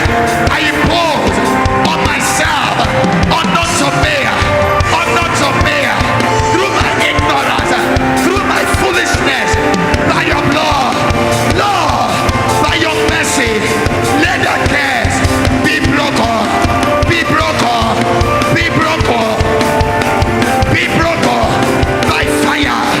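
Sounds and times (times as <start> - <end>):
church band music with drums: 0.0 - 23.0.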